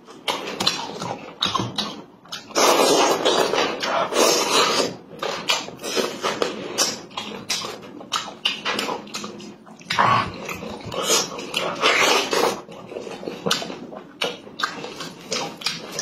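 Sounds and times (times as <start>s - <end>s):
wet chewing and lip-smacking: 0.0s - 16.0s
meat tearing: 0.1s - 16.0s.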